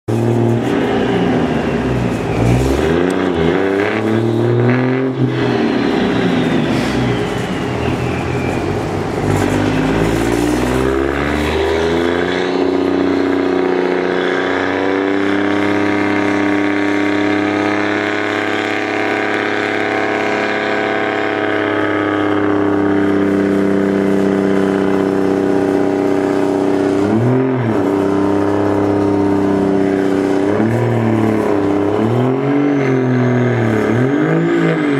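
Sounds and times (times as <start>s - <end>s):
truck engine revving: 0.1s - 34.9s.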